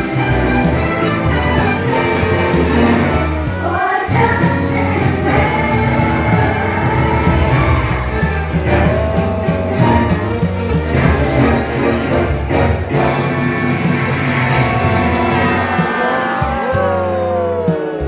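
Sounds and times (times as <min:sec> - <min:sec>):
show music with singing: 0:00.0 - 0:18.0.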